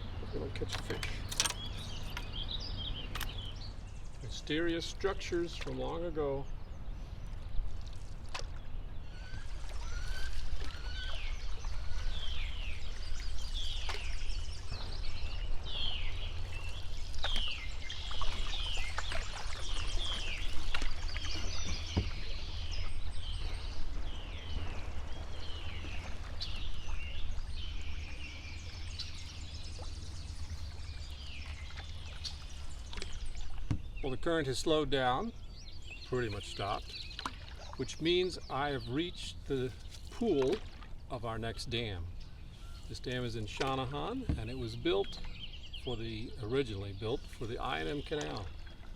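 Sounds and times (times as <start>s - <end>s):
birds chirping: 0.0s - 48.9s
canoe paddle in water: 0.0s - 48.9s.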